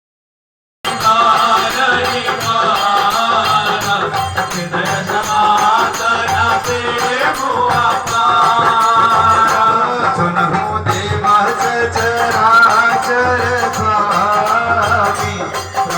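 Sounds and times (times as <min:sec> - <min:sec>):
dholak drum beats: 0:00.8 - 0:15.9
harmonium playing melody: 0:00.9 - 0:15.9
jingling hand percussion: 0:00.9 - 0:15.9.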